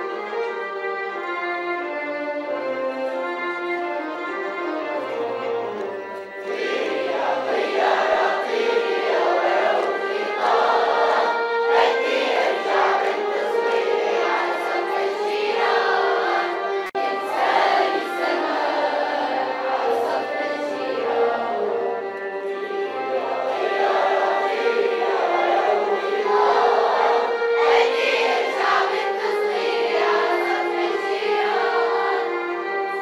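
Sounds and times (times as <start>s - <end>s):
instrumental accompaniment: 0.0s - 33.0s
choir singing: 5.7s - 33.0s.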